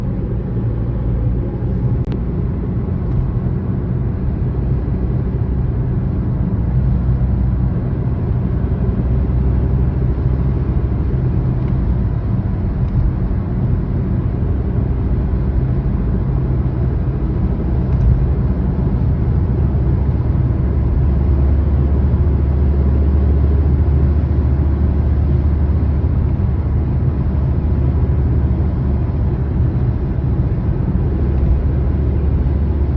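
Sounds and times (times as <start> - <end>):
car road rumble: 0.0 - 32.9.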